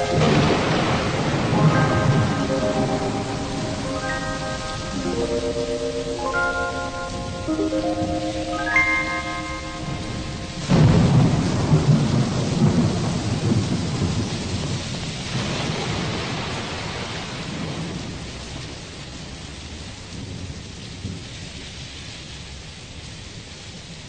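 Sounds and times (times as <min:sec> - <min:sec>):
thunder rumbling: 0:00.0 - 0:21.6
steady rain: 0:00.0 - 0:24.0.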